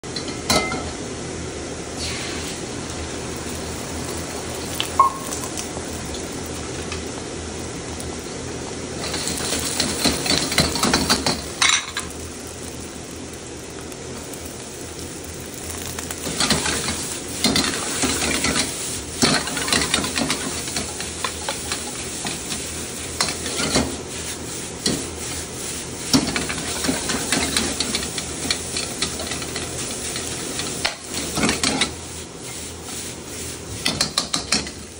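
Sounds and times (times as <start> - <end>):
rice sizzling in a wok: 0.1 - 34.9.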